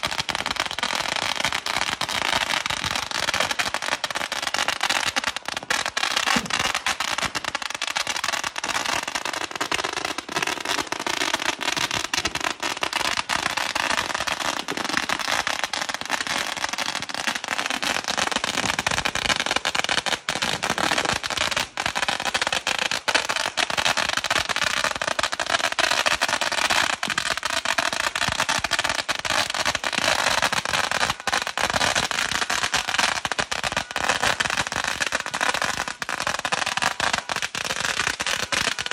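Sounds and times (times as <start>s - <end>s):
firecrackers popping: 0.0s - 38.9s.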